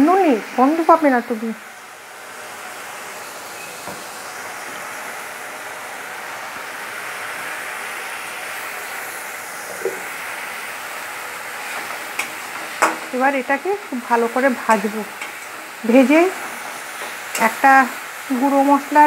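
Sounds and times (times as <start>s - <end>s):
onion and garlic sizzling in oil: 0.0s - 19.0s.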